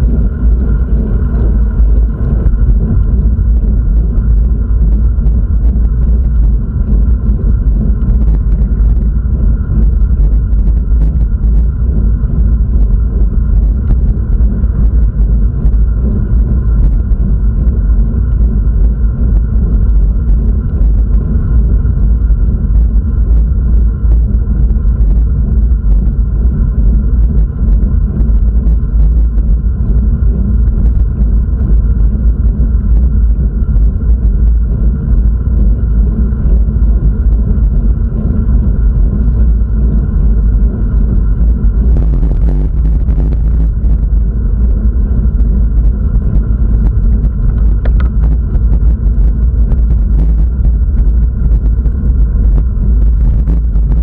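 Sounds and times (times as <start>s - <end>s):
wind and road noise rumble: 0.0s - 54.0s.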